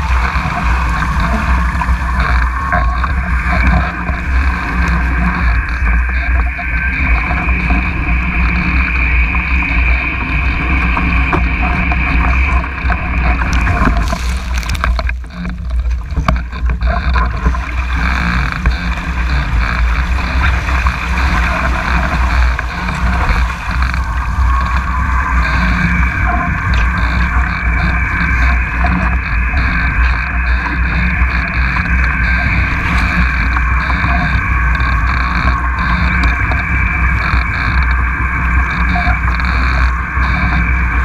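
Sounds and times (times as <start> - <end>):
water and wind rushing: 0.0 - 41.0.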